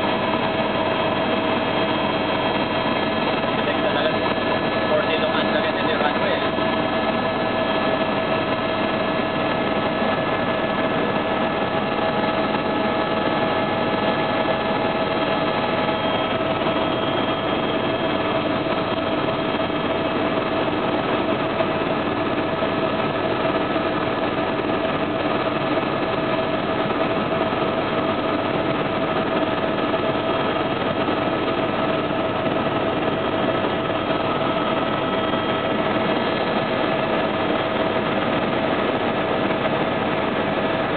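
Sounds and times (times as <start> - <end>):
helicopter cabin drone: 0.0 - 40.9.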